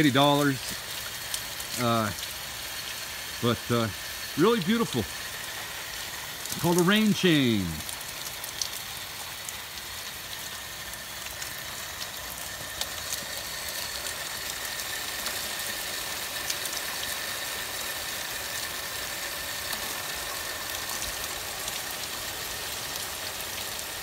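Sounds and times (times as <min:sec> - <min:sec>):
drops ticking: 0:00.0 - 0:23.1
steady rain: 0:00.0 - 0:24.0
water splashing down rain chain: 0:00.0 - 0:24.0.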